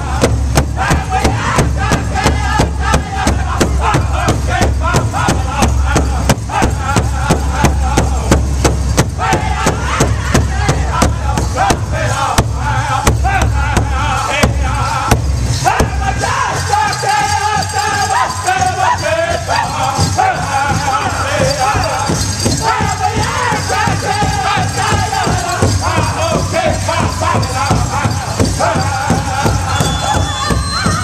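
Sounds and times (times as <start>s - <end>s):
big drum beating fast: 0.0s - 31.0s
men singing in high voices: 0.0s - 31.0s.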